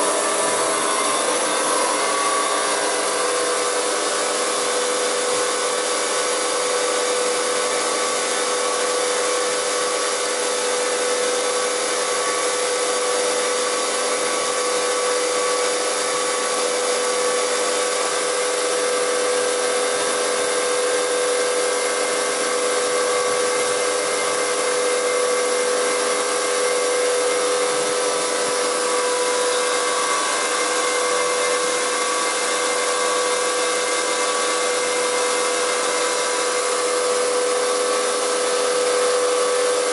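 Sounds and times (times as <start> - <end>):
planer machine hiss and whine: 0.0 - 39.9.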